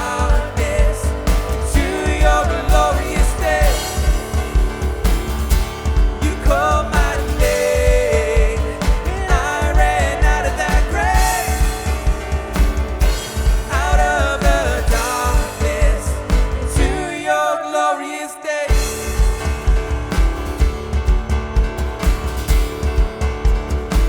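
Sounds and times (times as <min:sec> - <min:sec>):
steady drum beat: 0:00.0 - 0:17.3, 0:18.7 - 0:24.0
people singing: 0:00.0 - 0:19.9
worship band playing: 0:00.0 - 0:24.0.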